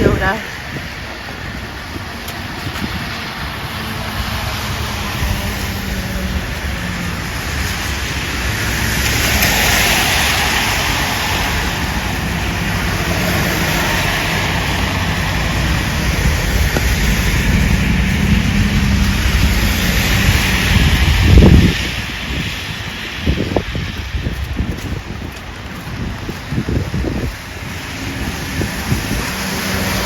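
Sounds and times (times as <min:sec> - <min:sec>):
low engine hum: 0:00.0 - 0:30.0
tyre hiss on wet road: 0:00.5 - 0:30.0.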